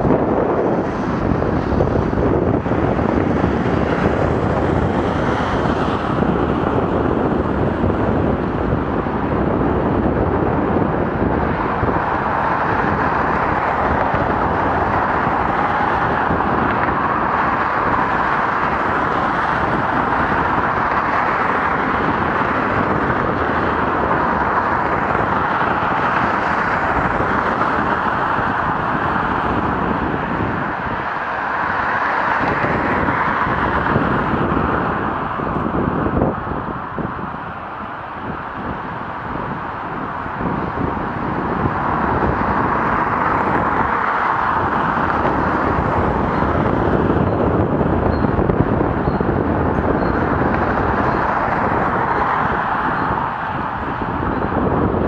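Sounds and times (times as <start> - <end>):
bicycle road noise: 0.0 - 55.0
wind rushing over microphone: 0.0 - 55.0.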